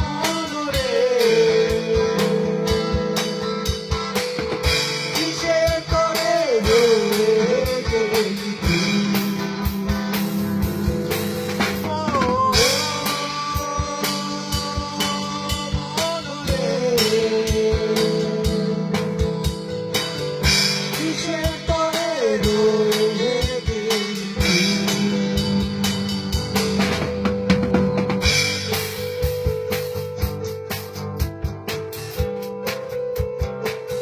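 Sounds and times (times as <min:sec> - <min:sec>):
drum kit beat: 0:00.0 - 0:34.0
electric guitar lead: 0:00.0 - 0:34.0.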